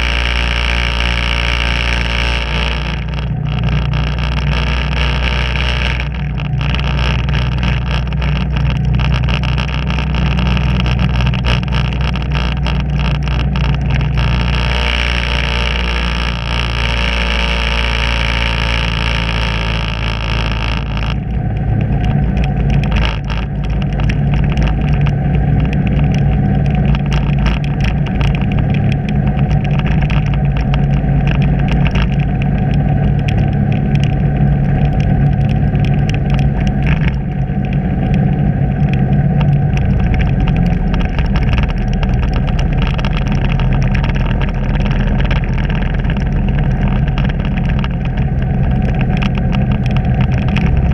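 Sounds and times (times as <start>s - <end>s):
vehicle engine droning: 0.0s - 50.9s.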